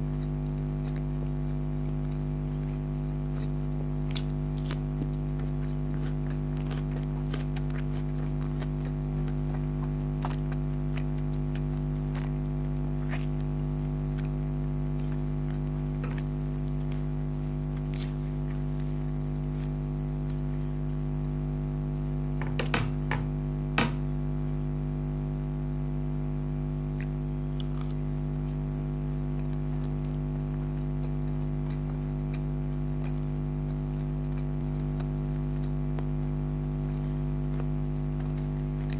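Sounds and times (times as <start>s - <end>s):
person chewing food: 0.0s - 22.4s, 26.9s - 38.9s
steady low hum: 0.0s - 38.9s.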